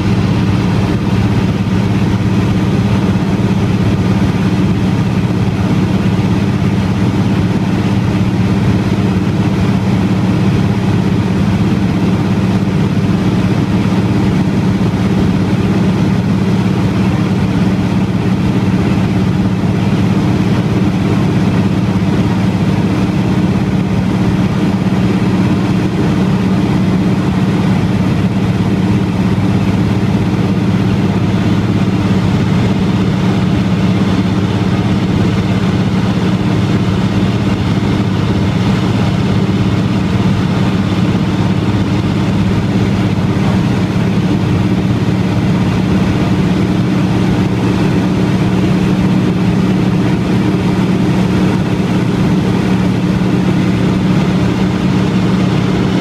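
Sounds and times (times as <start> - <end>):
plane engine and propeller droning: 0.0 - 56.0.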